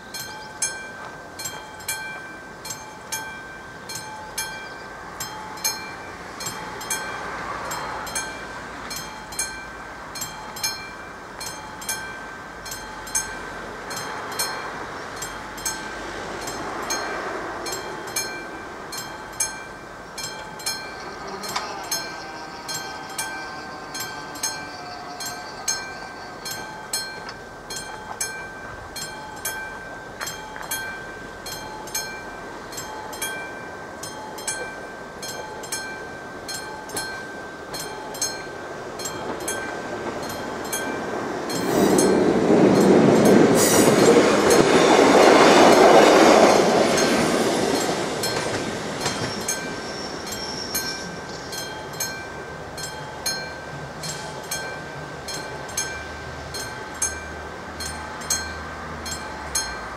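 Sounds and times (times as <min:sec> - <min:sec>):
level crossing warning bell: 0:00.0 - 0:59.9
passing train rumble: 0:00.0 - 0:59.9.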